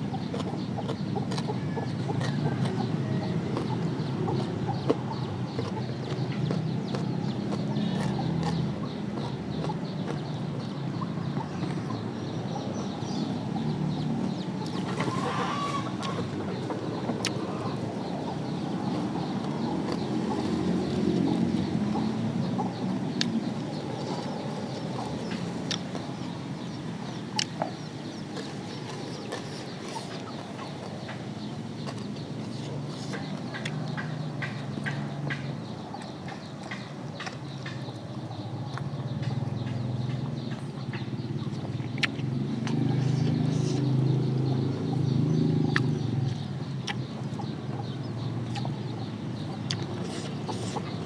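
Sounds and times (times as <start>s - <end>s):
chickens clucking: 0.0s - 51.0s
sharp clicks of eating: 0.0s - 51.0s.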